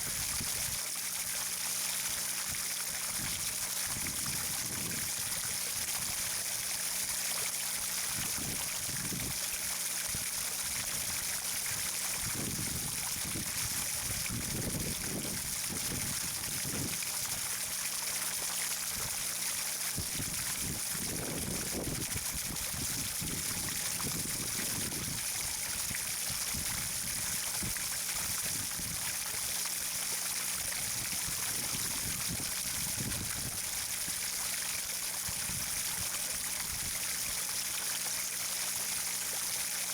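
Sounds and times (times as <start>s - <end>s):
water trickling and rushing: 0.0s - 39.9s.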